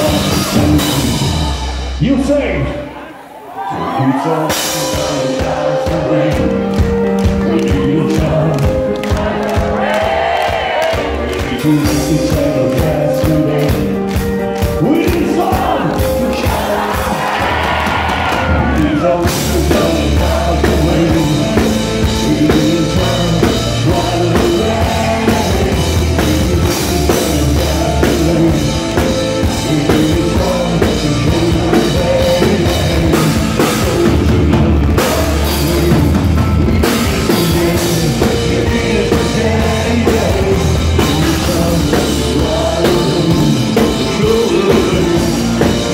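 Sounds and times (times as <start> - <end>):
drums: 0.0 - 3.0, 3.6 - 45.9
live rock band playing: 0.0 - 3.0, 4.2 - 45.9.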